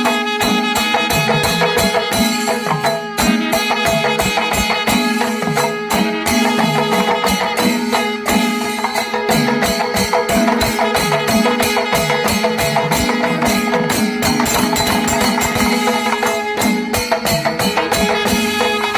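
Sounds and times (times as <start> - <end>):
cymbals beating: 0.0 - 18.9
drums beating fast: 0.0 - 18.9.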